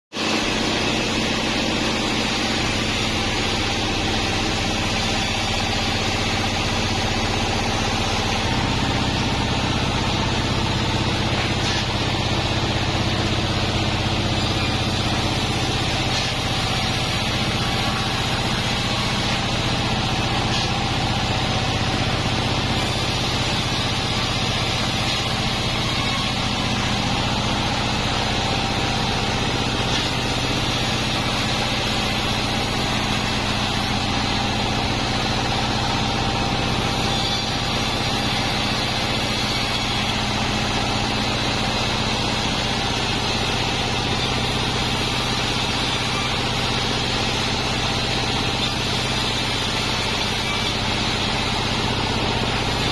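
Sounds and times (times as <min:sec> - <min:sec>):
bandsaw machinery drone: 0:00.1 - 0:52.9.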